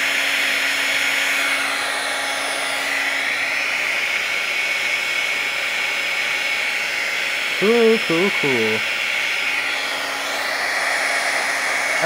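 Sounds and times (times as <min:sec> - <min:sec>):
heat gun fan rushing: 0:00.0 - 0:12.0.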